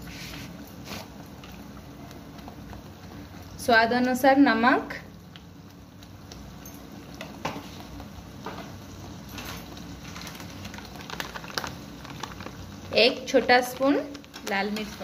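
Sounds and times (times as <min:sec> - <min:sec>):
small crackles: 0:00.8 - 0:04.2, 0:05.0 - 0:15.0.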